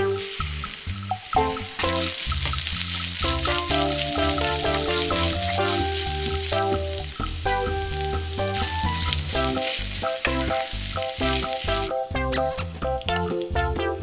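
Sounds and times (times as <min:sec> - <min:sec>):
fried rice sizzling in pan: 0:00.0 - 0:13.6
background music: 0:00.0 - 0:14.0.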